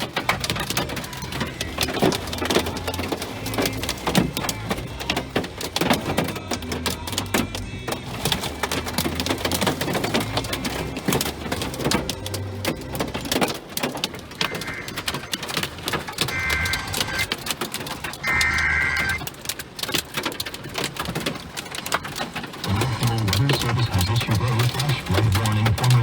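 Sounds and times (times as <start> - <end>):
hailstones pelting a car: 0.0 - 26.0.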